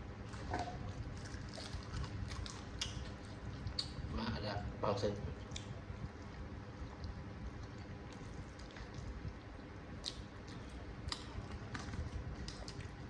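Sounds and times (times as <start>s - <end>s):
steady low hum: 0.0s - 13.0s
wet noodle eating sounds: 0.2s - 4.6s, 5.3s - 13.0s.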